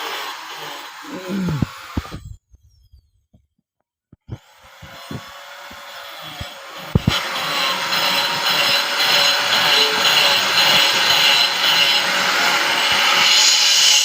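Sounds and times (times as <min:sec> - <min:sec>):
power tool cutting wood: 0:00.0 - 0:02.3, 0:04.2 - 0:14.0.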